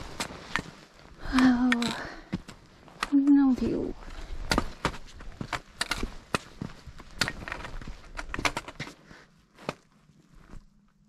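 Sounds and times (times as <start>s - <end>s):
footsteps on a trail: 0.0s - 10.9s.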